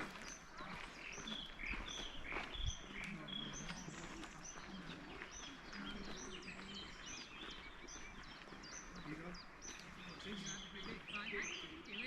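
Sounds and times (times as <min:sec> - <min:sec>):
small songbird singing: 0:00.0 - 0:12.0
soft outdoor background: 0:00.0 - 0:12.0.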